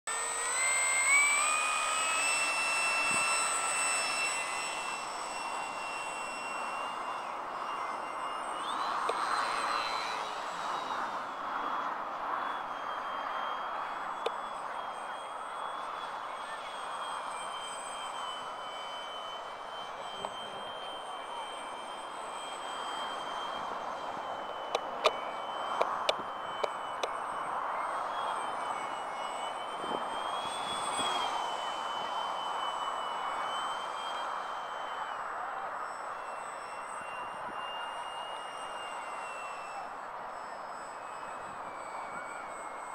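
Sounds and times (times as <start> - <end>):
model plane flying overhead: 0.1 - 42.9.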